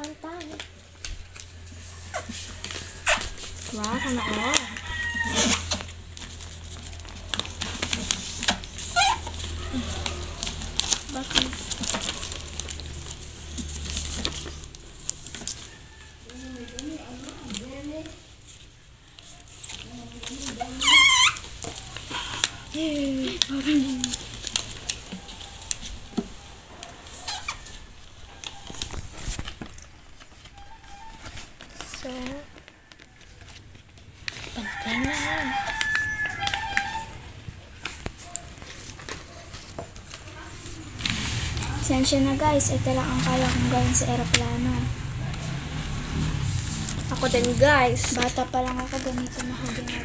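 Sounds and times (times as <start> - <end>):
paper folding rustles: 0.0 - 50.0
pens scratching and tapping: 0.0 - 50.0.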